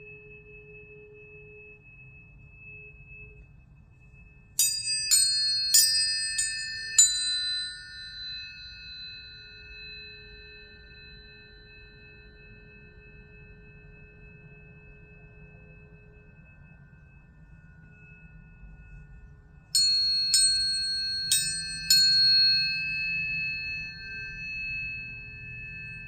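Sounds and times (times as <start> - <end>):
tuning forks ringing: 0.0 - 26.0.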